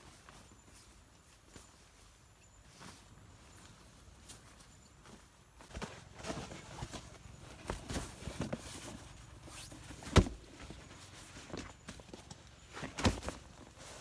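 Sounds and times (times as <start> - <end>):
rustling of handled objects: 0.0 - 14.0.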